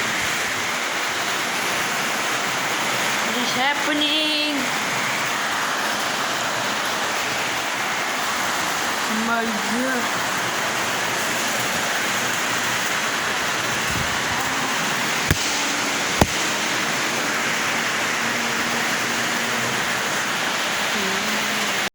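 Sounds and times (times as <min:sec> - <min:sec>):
heavy rain in strong wind: 0:00.0 - 0:21.9.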